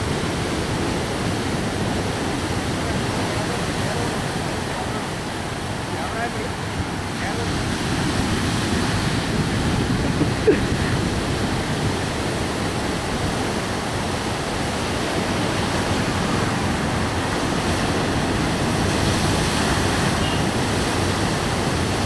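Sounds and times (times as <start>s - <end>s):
surf breaking on shore: 0.0s - 22.0s.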